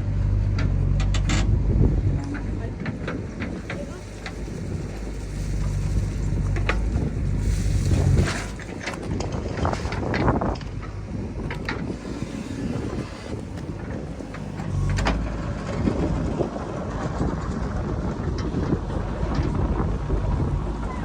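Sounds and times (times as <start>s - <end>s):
diesel machinery rumbling: 0.0s - 21.0s
wind buffeting microphone: 0.0s - 21.0s.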